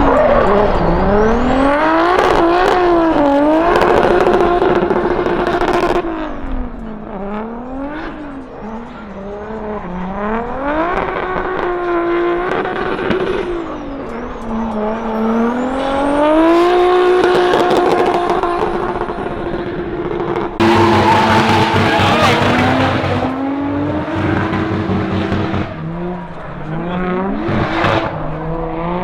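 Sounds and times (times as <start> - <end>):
car engine revving high: 0.0 - 29.0.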